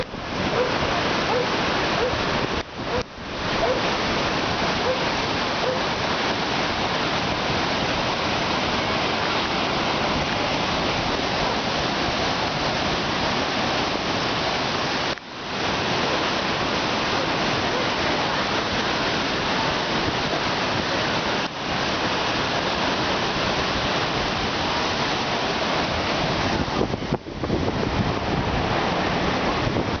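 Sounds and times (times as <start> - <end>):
whitewater rushing: 0.0 - 30.0.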